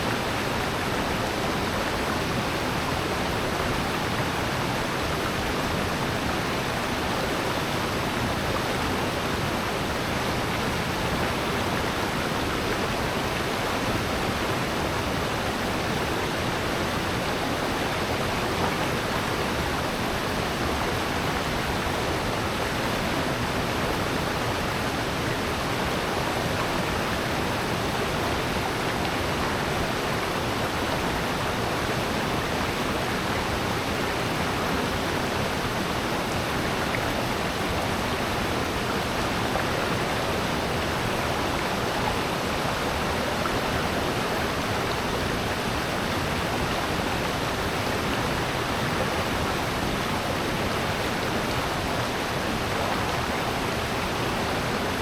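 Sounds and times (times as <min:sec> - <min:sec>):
water rushing in stream: 0:00.0 - 0:55.0.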